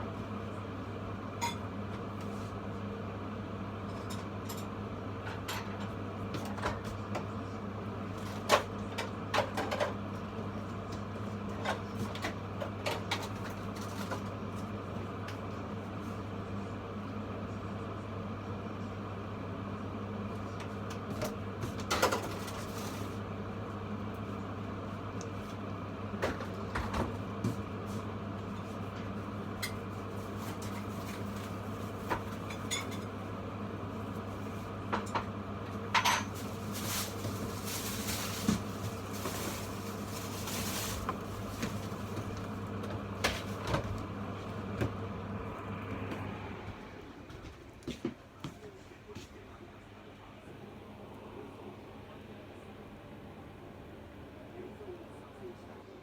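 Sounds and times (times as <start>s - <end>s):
kitchen appliance humming: 0.0s - 48.0s.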